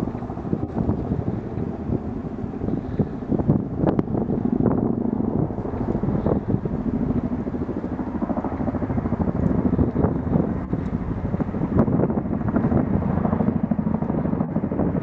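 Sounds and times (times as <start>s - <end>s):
low engine drone: 0.0s - 14.6s
helicopter rotor chop: 0.0s - 15.0s.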